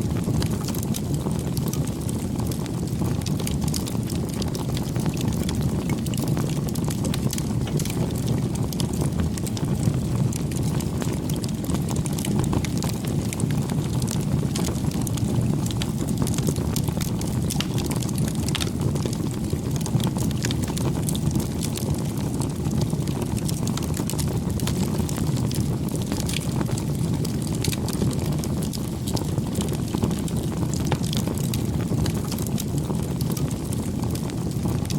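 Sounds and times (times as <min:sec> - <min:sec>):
campfire flames rumbling: 0:00.0 - 0:34.9
fire crackles and pops: 0:00.0 - 0:34.9.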